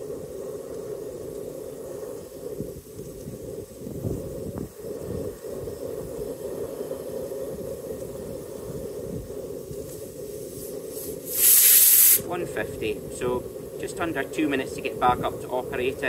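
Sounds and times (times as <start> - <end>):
camping stove gas burner: 0.0 - 16.0
wind buffeting microphone: 0.0 - 16.0.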